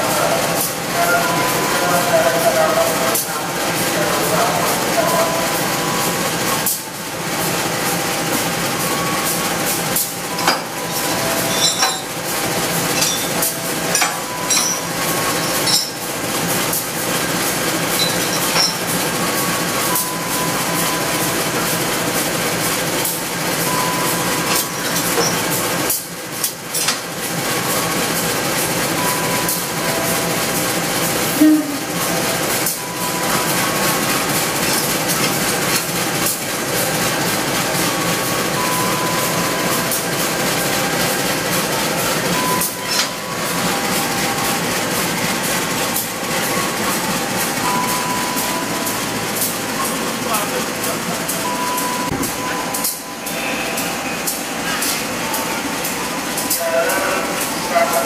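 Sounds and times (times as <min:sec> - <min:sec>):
diesel locomotive idling: 0:00.0 - 0:58.0.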